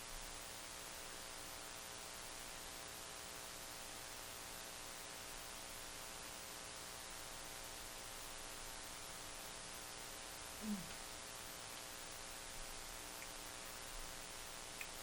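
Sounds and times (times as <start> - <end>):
faint electrical hum: 0.0 - 15.0
steady hiss: 0.0 - 15.0.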